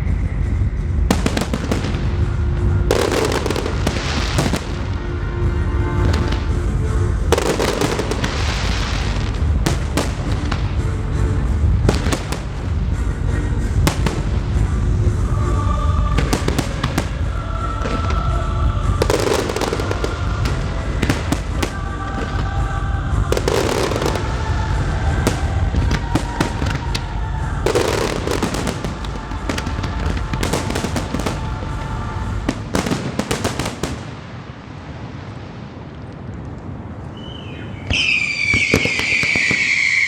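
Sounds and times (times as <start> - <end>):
fireworks bangs and crackling: 0.0 - 36.8, 37.8 - 40.0
low rumble: 0.0 - 37.1.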